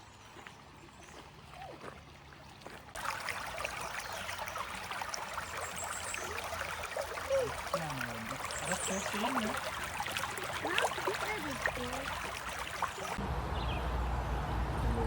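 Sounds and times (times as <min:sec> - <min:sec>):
creek water babbling: 0:00.0 - 0:13.2.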